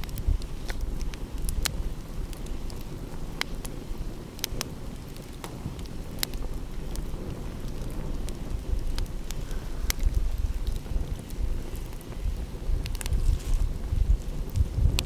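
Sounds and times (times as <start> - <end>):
wind: 0.0 - 15.0
wood fire crackling and popping: 0.0 - 15.0.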